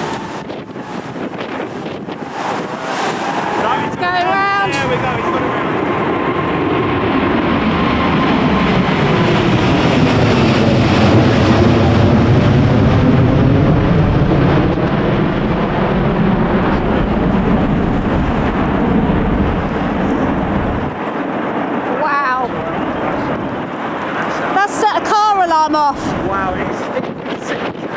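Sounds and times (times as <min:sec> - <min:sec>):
jet plane passing overhead: 0:00.0 - 0:27.9.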